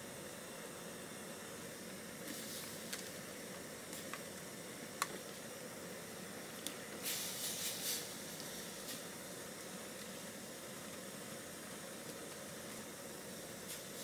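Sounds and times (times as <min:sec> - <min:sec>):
gas burner hiss: 0:00.0 - 0:14.0.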